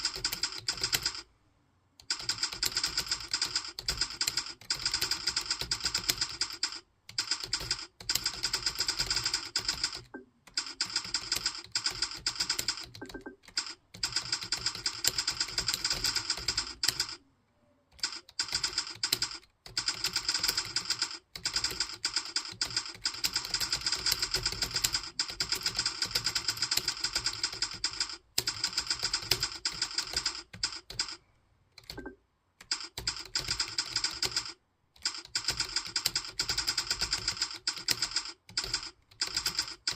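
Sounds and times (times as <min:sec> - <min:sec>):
fast keyboard typing: 0:00.0 - 0:01.3, 0:02.0 - 0:17.2, 0:17.9 - 0:31.2, 0:31.8 - 0:39.9.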